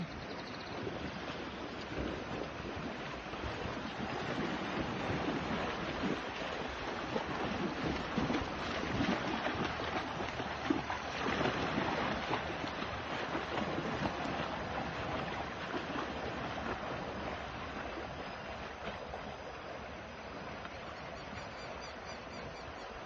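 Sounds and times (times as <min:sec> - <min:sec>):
wind buffeting microphone: 0:00.0 - 0:20.6
floodwater rushing: 0:00.0 - 0:21.4.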